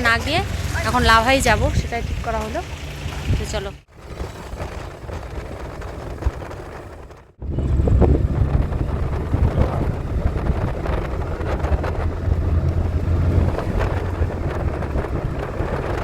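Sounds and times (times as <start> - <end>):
vehicle rumbling: 0.0 - 16.0
wind noise on microphone: 0.0 - 16.0.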